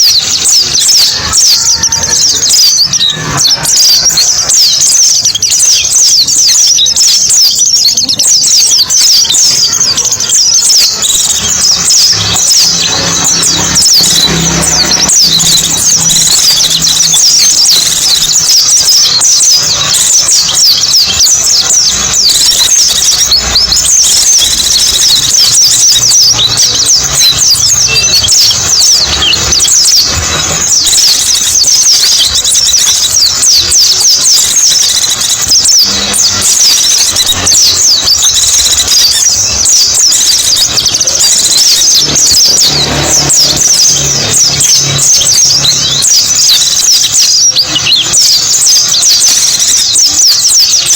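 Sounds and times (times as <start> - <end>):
bird twittering song: 0.0 - 50.9.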